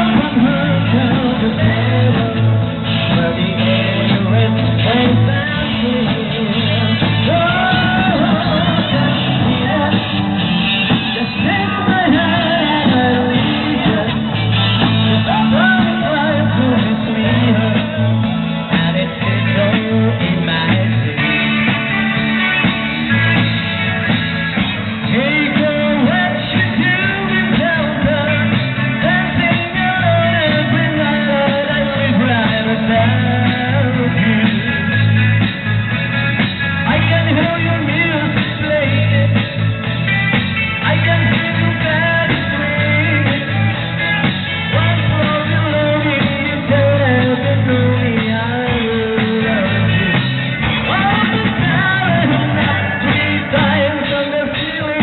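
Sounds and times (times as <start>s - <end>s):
person singing lead vocal: 0.0s - 55.0s
rock band playing: 0.0s - 55.0s.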